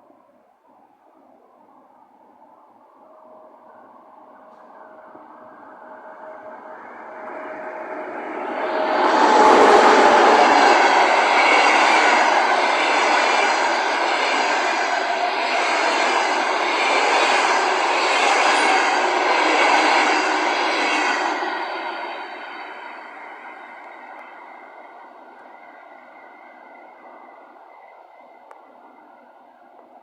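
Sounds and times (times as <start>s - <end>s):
train wheels rushing on rails: 4.1s - 28.5s.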